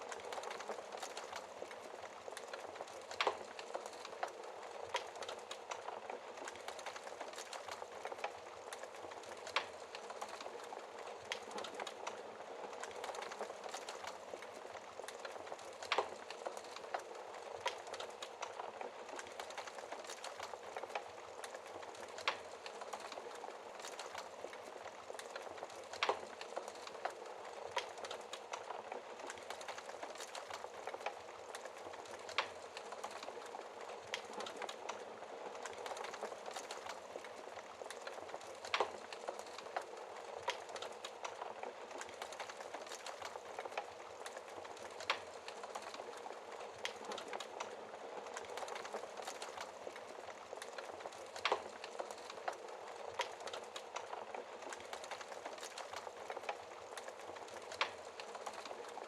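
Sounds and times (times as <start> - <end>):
fire crackling and hissing: 0.0 - 59.0
fire pops: 0.1 - 59.0.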